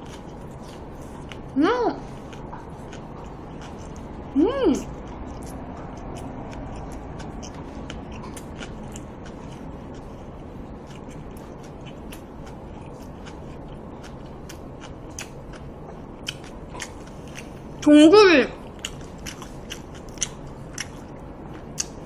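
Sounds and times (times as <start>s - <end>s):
person chewing food: 0.0s - 17.9s, 18.6s - 22.0s
low background hum: 0.0s - 22.0s.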